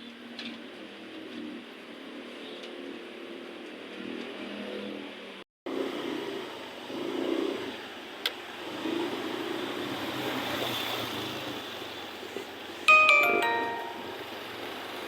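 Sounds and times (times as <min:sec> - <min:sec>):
vehicle engine and road noise: 0:00.0 - 0:12.9.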